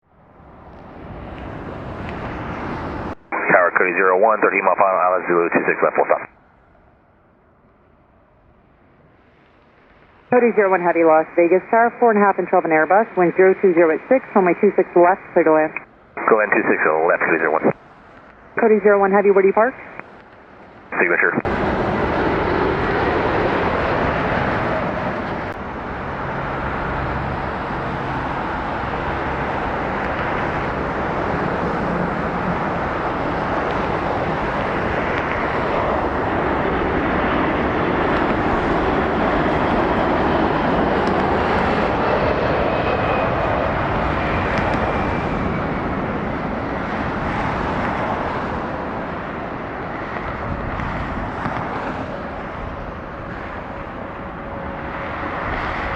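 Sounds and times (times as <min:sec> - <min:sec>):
jet engines rushing: 0:00.2 - 0:06.3, 0:09.0 - 0:55.9.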